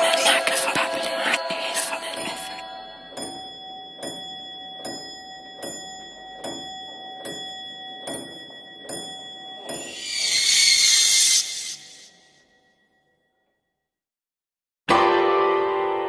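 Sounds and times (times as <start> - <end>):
steady high ringing tone: 0.0 - 13.2.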